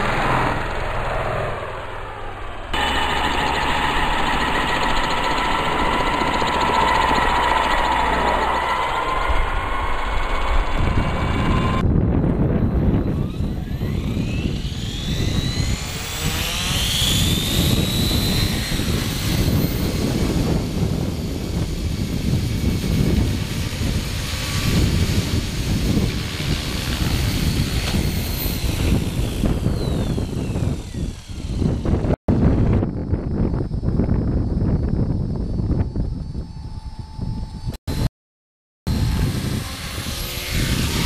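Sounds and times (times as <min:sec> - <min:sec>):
model helicopter rotor whine: 0:00.0 - 0:38.1, 0:38.9 - 0:41.0.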